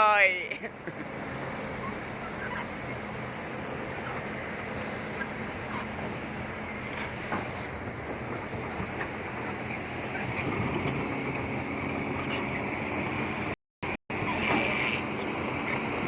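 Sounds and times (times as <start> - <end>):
bulldozer diesel engine running: 0.5 - 16.0.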